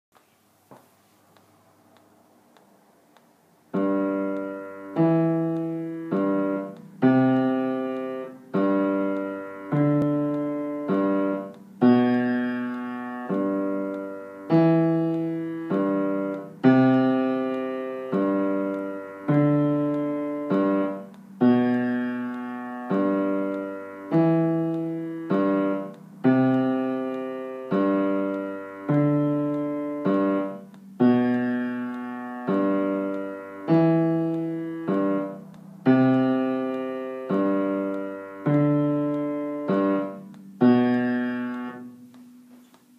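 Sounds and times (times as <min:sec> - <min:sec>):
piano chords ringing: 0:03.7 - 0:42.6.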